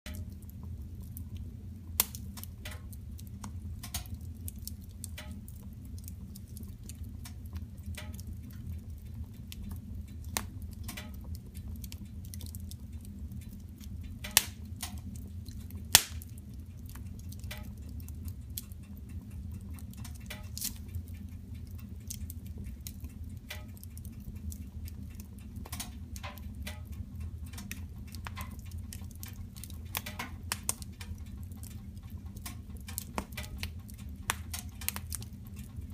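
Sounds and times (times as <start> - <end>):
steady low hum: 0.1 - 35.9
wood fire crackling and popping: 0.1 - 35.9.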